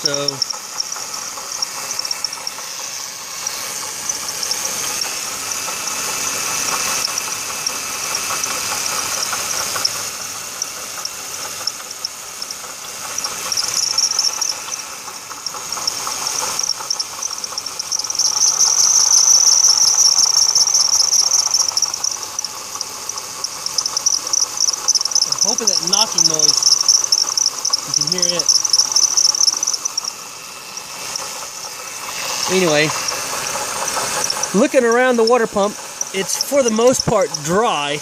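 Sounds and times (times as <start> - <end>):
high-pitched bearing chirping: 0.0 - 10.0, 10.6 - 38.0
engine knocking: 0.0 - 38.0.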